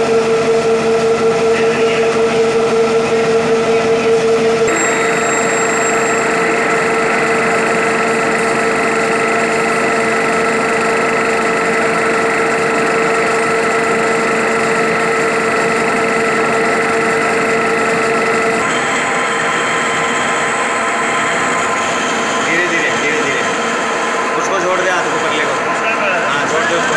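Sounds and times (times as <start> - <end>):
lathe humming and whining: 0.0 - 26.9.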